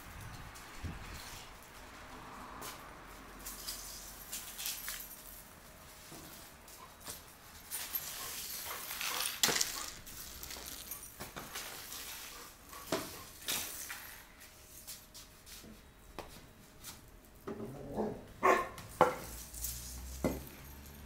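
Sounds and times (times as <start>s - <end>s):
shoes and paws on tiled floor: 0.0s - 21.0s.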